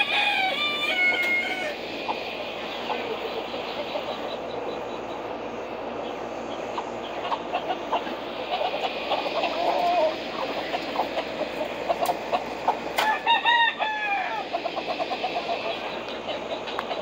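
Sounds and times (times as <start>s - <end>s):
chickens clucking: 0.0s - 17.0s
steady background hiss: 0.0s - 17.0s.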